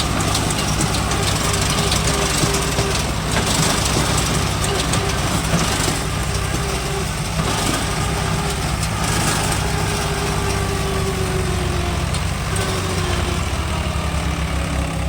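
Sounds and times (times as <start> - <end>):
tractor diesel engine chugging: 0.0 - 15.0.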